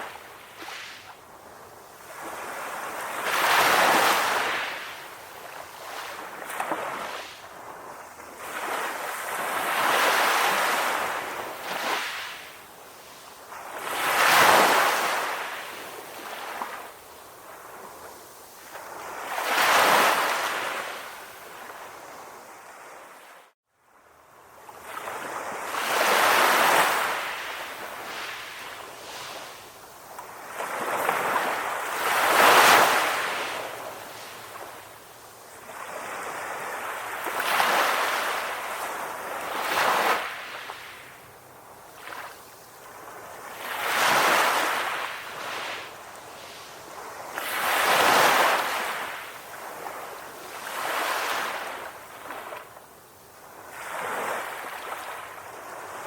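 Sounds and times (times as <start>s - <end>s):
calm sea waves breaking: 0.0s - 56.0s.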